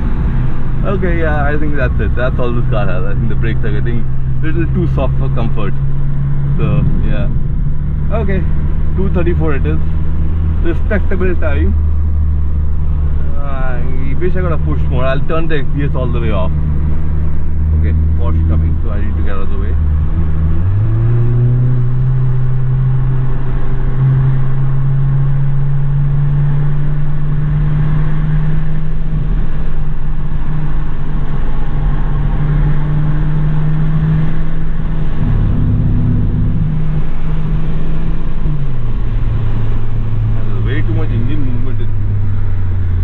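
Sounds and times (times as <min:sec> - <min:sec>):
car engine under throttle: 0:00.0 - 0:43.0.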